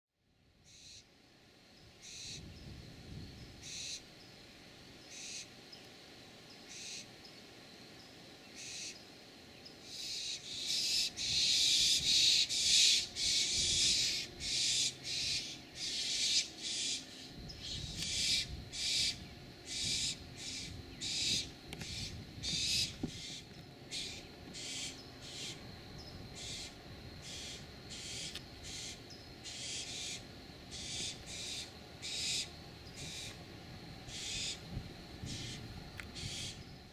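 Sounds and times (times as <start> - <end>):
barn owls hissing calls: 0.6 - 1.1, 1.9 - 2.6, 3.4 - 5.7, 6.5 - 7.4, 8.5 - 36.9.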